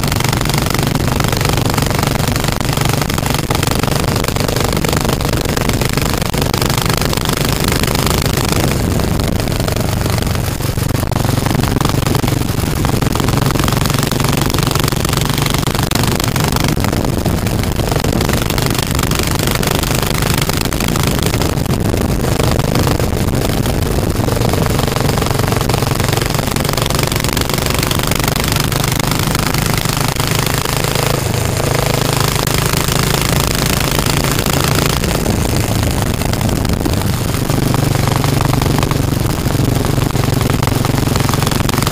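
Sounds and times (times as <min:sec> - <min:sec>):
motorcycle engine exhaust: 0:00.0 - 0:41.9
wind rushing over microphone: 0:00.0 - 0:41.9.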